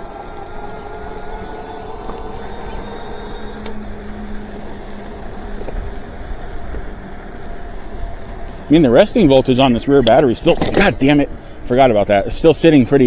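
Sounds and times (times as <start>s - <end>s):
electric motor whining: 0.0s - 11.8s
road rumble: 0.0s - 13.0s
wind: 0.0s - 13.0s.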